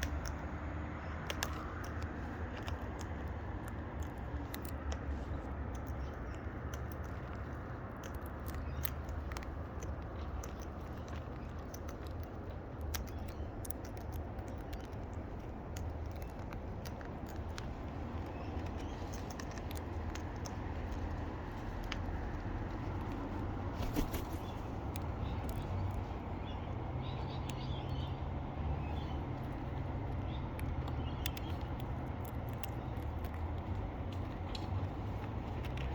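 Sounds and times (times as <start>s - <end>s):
low background hum: 0.0s - 35.9s
parrot beaks crunching seeds: 0.0s - 35.9s.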